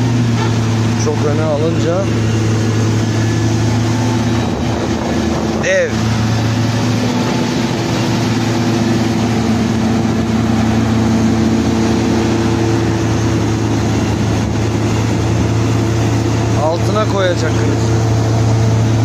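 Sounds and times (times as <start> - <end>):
excavator diesel engine humming: 0.0 - 19.0.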